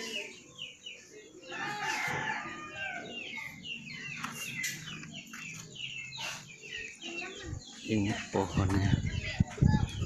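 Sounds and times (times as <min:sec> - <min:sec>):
birds chirping: 0:00.0 - 0:10.0
chickens clucking: 0:00.0 - 0:10.0.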